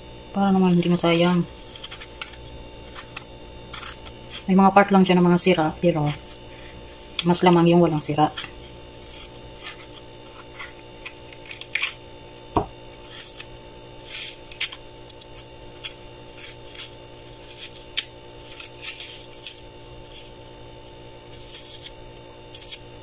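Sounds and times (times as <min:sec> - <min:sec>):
knife scraping apple: 0:00.4 - 0:23.0.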